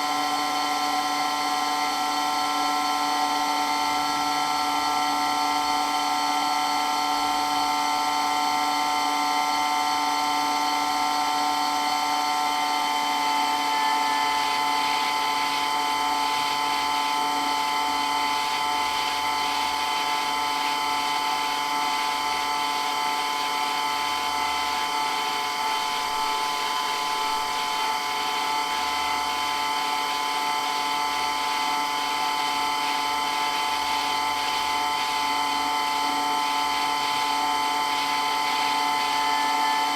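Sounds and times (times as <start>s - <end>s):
water pump whine: 0.0s - 39.9s.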